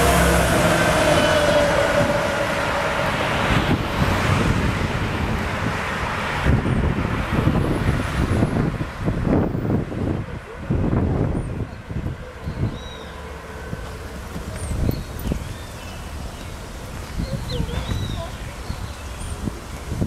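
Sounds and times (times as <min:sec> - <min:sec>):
diesel bus passing: 0:00.0 - 0:20.0
road and traffic noise: 0:00.0 - 0:20.0
wind gusts on microphone: 0:00.0 - 0:20.0.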